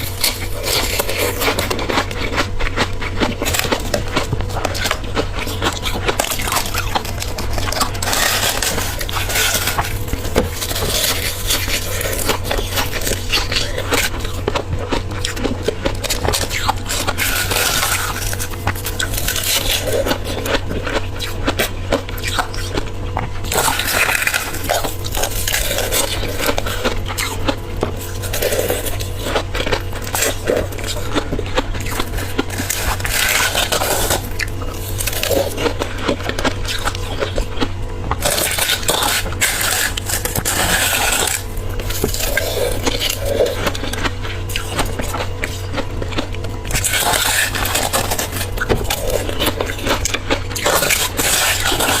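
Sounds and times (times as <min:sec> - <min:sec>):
person crunching ice: 0:00.0 - 0:22.8, 0:23.4 - 0:52.0.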